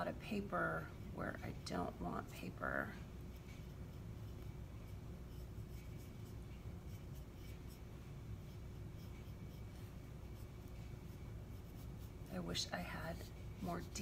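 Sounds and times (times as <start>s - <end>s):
pencil scratching on paper: 2.6s - 14.0s.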